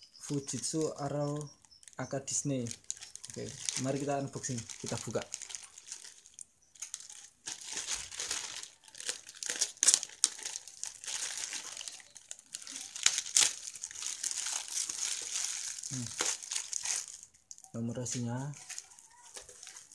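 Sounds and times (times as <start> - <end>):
plastic bag crinkling: 0.0 - 19.9.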